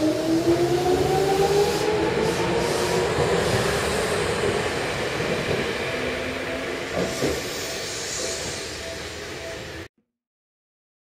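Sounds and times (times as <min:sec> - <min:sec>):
train wheels rumbling on rails: 0:00.0 - 0:09.9.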